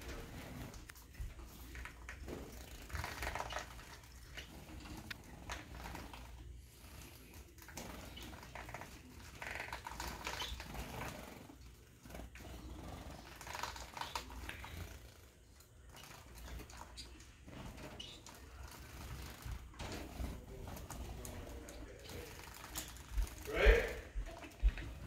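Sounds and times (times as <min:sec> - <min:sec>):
birds clicking and rustling: 0:00.0 - 0:25.0.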